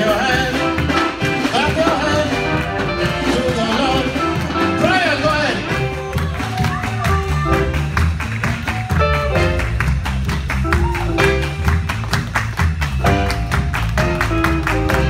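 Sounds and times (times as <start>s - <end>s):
electric guitar melody: 0.0s - 15.0s
gospel band playing: 0.0s - 15.0s.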